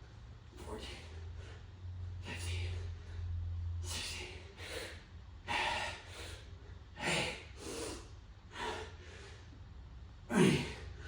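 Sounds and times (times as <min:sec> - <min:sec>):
man breathing hard: 0:00.6 - 0:09.6.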